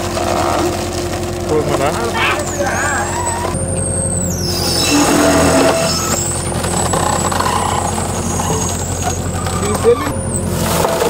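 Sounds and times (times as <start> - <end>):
hydraulic log splitter running: 0.0 - 11.0.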